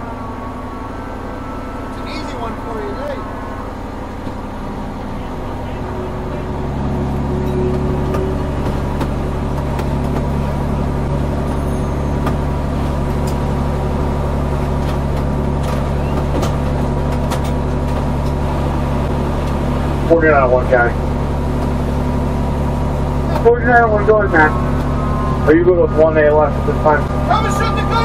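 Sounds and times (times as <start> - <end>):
diesel engine and pump running: 0.0 - 28.0.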